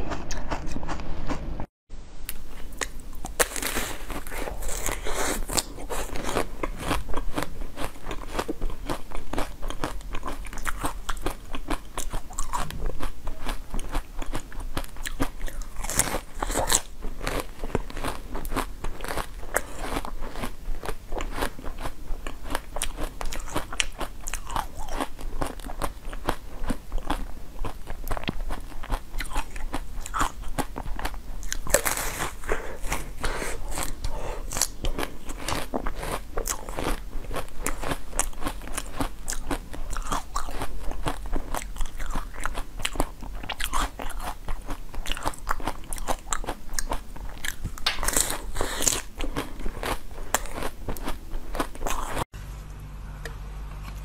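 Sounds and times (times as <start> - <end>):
crunchy biting and chewing: 0.0 - 1.6, 2.3 - 52.3.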